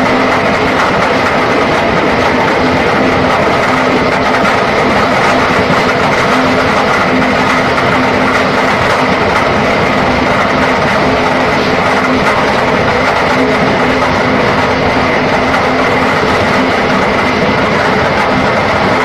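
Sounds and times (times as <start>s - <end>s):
clattering machine rumble: 0.0s - 19.0s
high steady whine: 0.0s - 19.0s.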